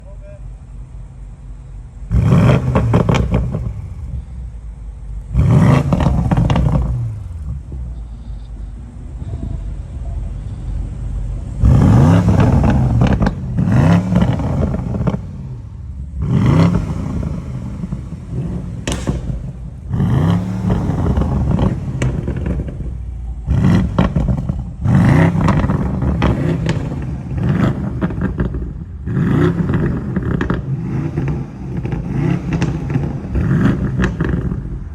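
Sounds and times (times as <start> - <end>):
car engines revving: 0.0 - 34.9
exhaust crackles: 0.0 - 34.9.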